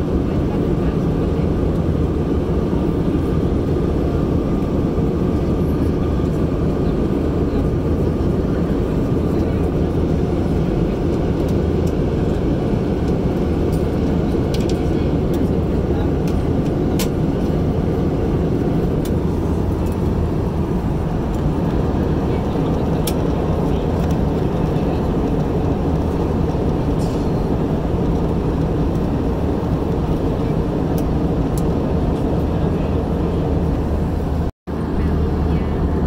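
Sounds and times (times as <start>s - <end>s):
airplane cabin engine rumble: 0.0s - 36.0s.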